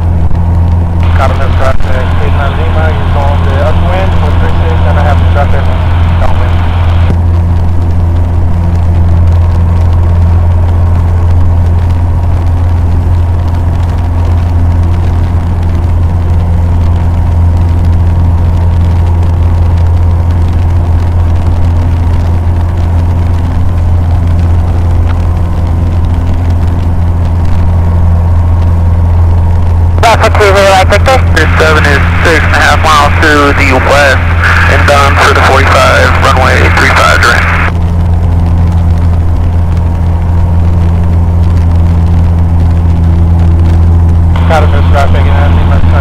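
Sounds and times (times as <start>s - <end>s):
aircraft engine and propeller droning: 0.0s - 46.0s.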